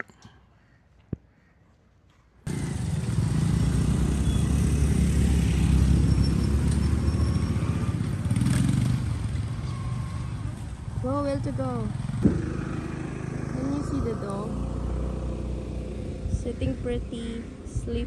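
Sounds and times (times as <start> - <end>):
motorcycle engine rumbling: 2.5 - 18.0.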